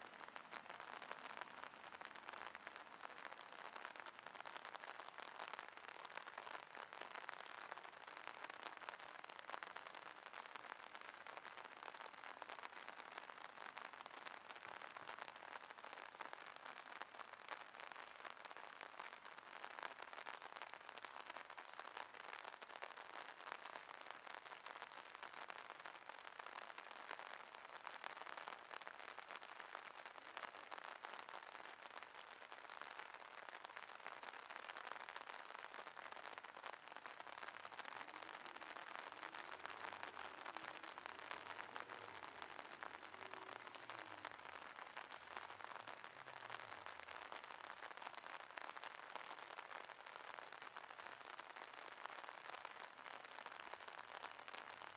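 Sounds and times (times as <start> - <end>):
rain falling on water: 0.0 - 54.9.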